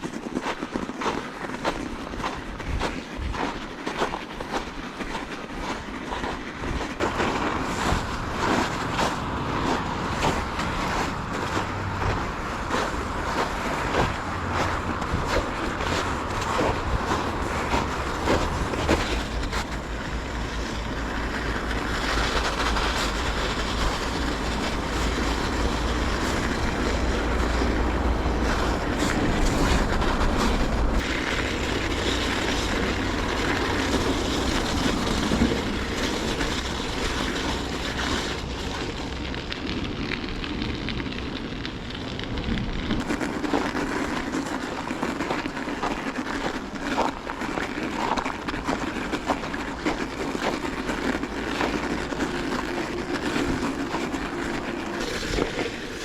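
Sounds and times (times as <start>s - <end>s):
bicycle tyres crunching snow: 0.0s - 56.0s
wind rumbling on microphone: 0.0s - 56.0s.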